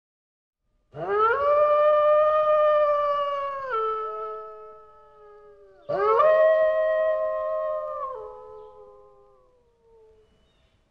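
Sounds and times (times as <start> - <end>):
wolf howling: 0.9 - 10.2.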